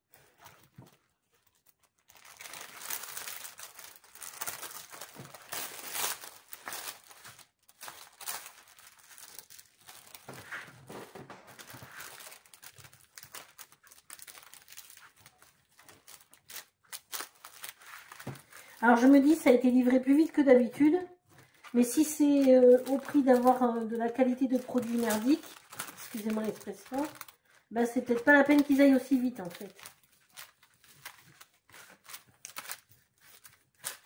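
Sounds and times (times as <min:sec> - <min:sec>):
packaging crinkling: 0:00.2 - 0:34.0.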